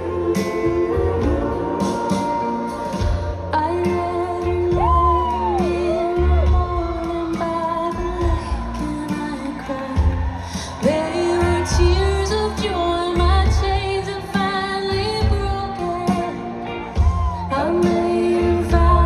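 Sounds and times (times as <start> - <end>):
live band playing slow song: 0.0 - 19.0.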